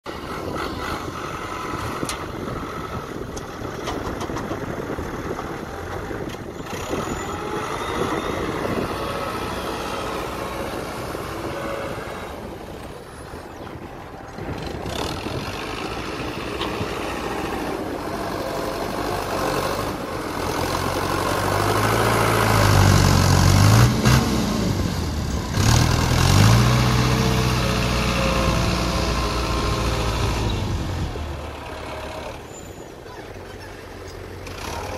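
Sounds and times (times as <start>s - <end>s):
tractor diesel engine: 0.0s - 34.9s.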